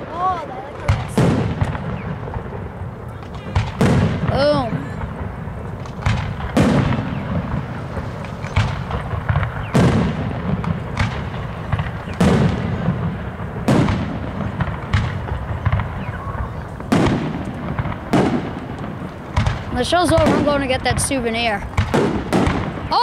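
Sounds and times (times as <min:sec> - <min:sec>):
firework booms echoing: 0:00.0 - 0:23.0.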